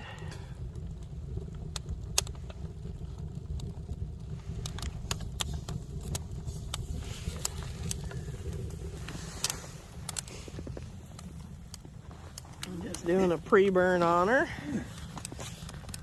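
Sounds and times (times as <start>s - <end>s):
wood fire crackling in stove: 0.0s - 16.0s.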